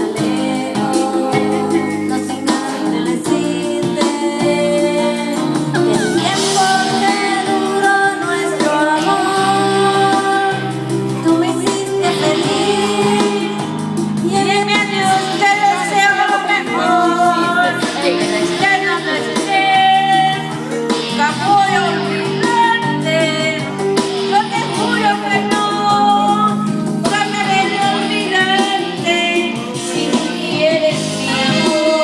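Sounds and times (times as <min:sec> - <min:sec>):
karaoke backing track: 0:00.0 - 0:32.0
person singing: 0:00.0 - 0:32.0.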